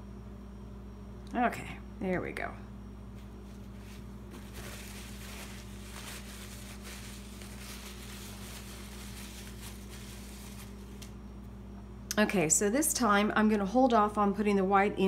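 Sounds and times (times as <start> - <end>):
low hum: 0.0 - 14.7.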